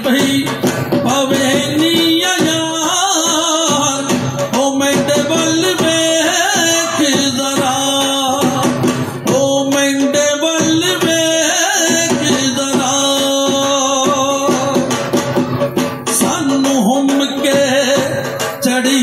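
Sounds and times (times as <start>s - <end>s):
folk singing: 0.0s - 19.0s
steady drum beat: 0.0s - 19.0s.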